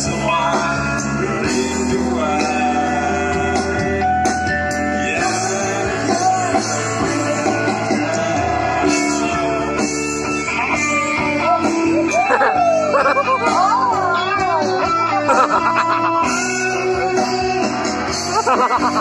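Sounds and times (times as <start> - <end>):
drums: 0.0 - 19.0
electric guitars: 0.0 - 19.0
person singing: 0.0 - 19.0.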